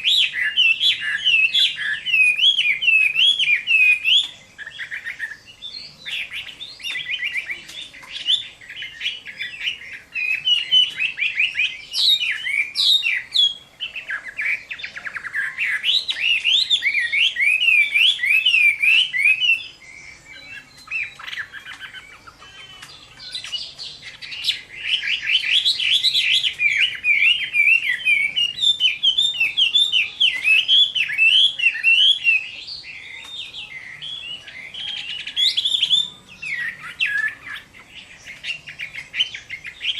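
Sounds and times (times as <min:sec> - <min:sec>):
songbird singing fast varied song: 0:00.0 - 0:39.9.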